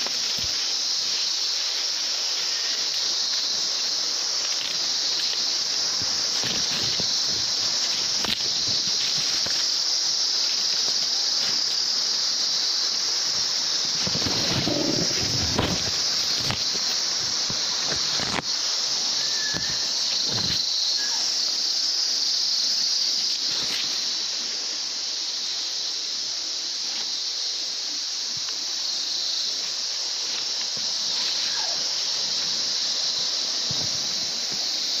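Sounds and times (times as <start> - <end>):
insects droning: 0.0 - 35.0
leaves and twigs rustling: 0.0 - 35.0.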